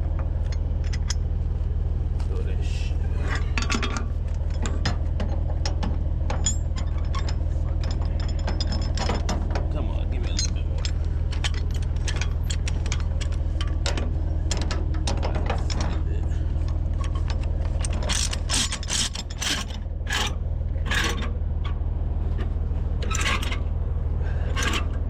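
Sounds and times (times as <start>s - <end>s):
low engine hum: 0.0s - 25.0s
chains and ratchet clanking: 0.1s - 1.3s, 3.1s - 21.8s, 23.0s - 23.7s, 24.3s - 25.0s.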